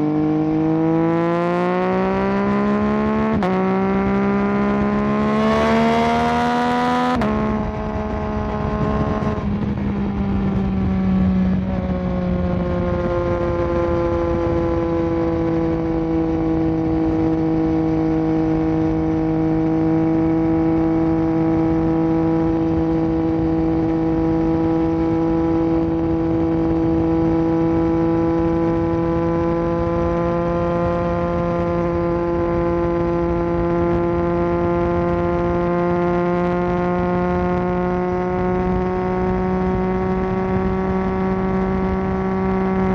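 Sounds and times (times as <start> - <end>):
motorcycle engine at steady revs: 0.0 - 42.9.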